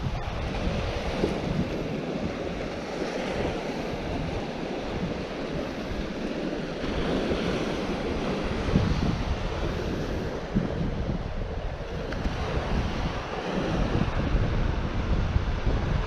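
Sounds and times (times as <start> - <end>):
surf washing against rocks: 0.0 - 16.0
wind buffeting microphone: 0.0 - 16.0.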